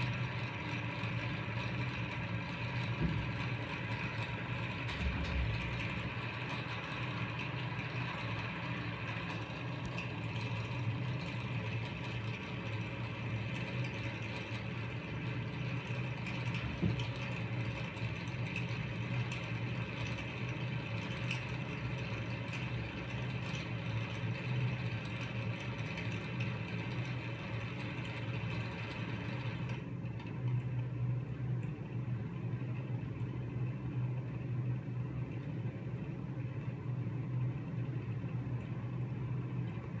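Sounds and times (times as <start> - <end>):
exhaust fan motor hum and whir: 0.0 - 40.0.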